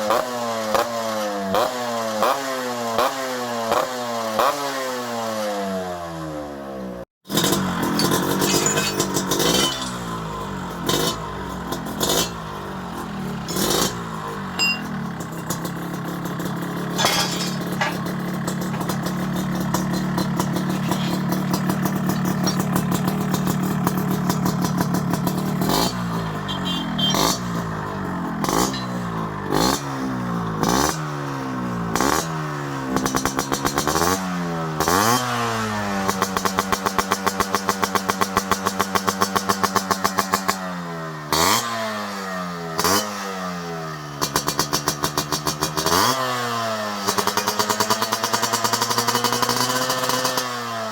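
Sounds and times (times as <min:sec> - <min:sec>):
two-stroke engine idling and revving: 0:00.0 - 0:50.9.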